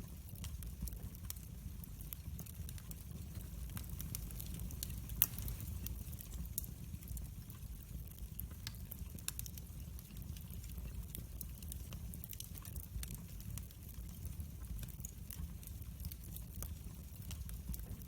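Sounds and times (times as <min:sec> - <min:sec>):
fire crackles and pops: 0:00.0 - 0:18.0
fire flames rumbling: 0:00.0 - 0:18.0.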